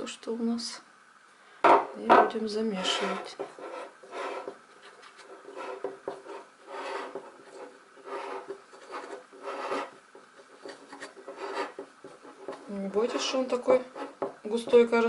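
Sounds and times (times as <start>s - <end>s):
hand mixing thick paste: 2.8s - 15.0s.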